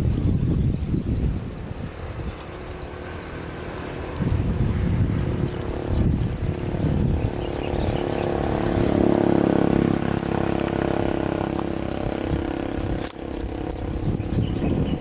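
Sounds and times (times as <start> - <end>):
mechanical hum: 0.0 - 15.0
wind buffeting microphone: 0.0 - 15.0.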